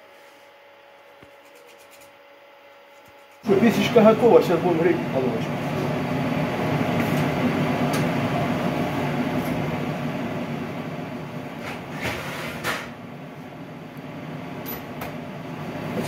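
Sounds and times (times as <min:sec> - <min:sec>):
workshop hum: 0:00.0 - 0:16.0.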